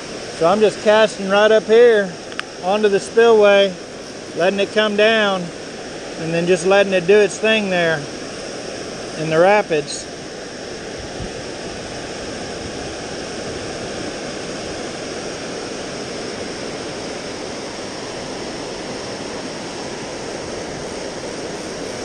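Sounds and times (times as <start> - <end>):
water rushing down spillway: 0.0 - 22.0.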